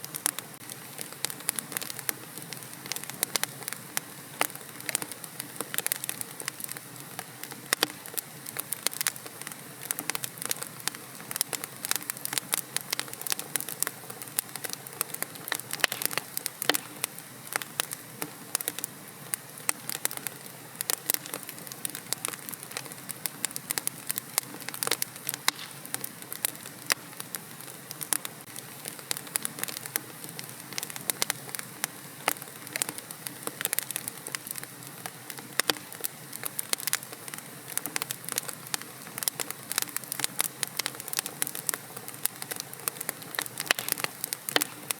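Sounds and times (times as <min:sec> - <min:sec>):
fire hissing: 0:00.0 - 0:44.9
fire popping and snapping: 0:00.0 - 0:44.9.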